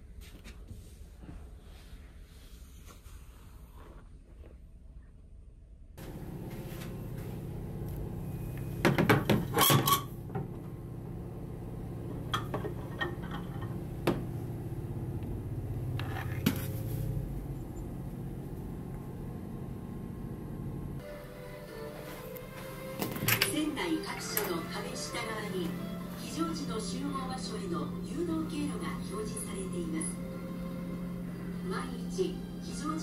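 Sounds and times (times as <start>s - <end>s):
low cabin hum: 6.0s - 33.0s.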